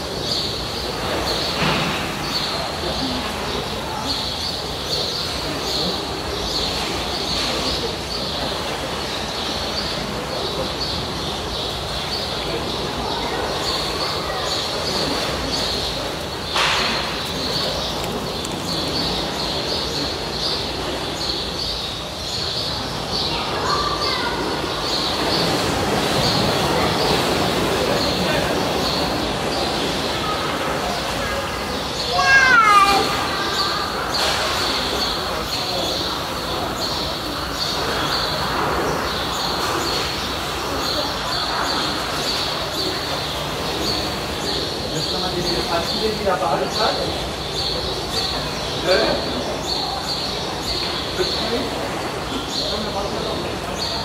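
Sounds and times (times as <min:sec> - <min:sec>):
crowd chatter: 0:00.0 - 0:54.0.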